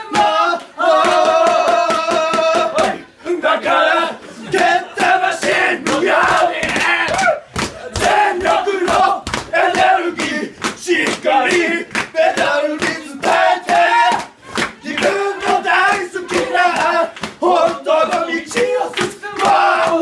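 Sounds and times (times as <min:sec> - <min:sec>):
sharp claps: 0:00.1 - 0:03.0, 0:04.5 - 0:20.0.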